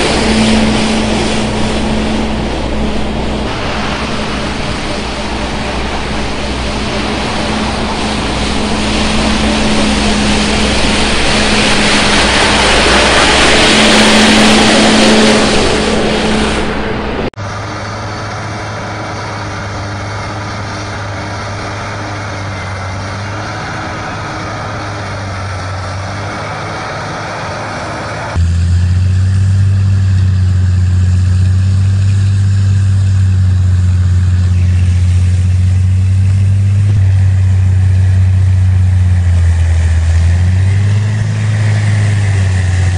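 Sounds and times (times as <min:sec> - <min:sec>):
rotary sweeper brush rushing: 0:00.0 - 0:28.4, 0:32.0 - 0:42.9
snow blower throwing snow: 0:00.0 - 0:42.9
wheel loader engine drone: 0:00.0 - 0:42.9.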